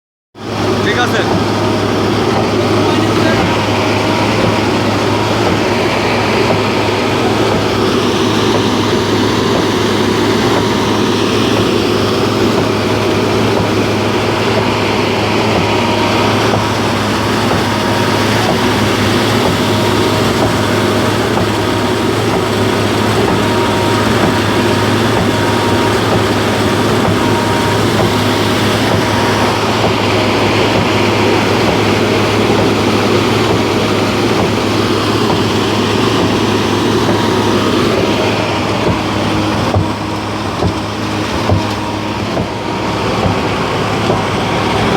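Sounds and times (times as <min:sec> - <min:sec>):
diesel engine running under load: 0:00.4 - 0:44.9.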